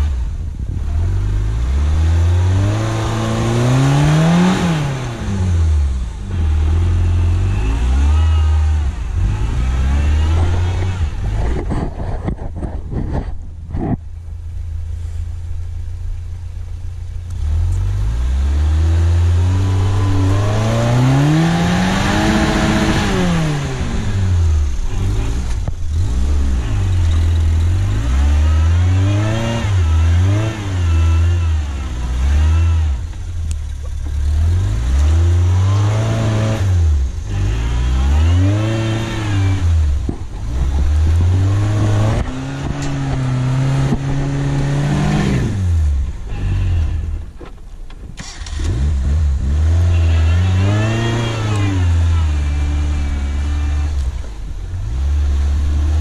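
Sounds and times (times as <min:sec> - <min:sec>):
engine revving under load: 0:00.0 - 0:13.4, 0:17.2 - 0:47.5, 0:48.1 - 0:56.0.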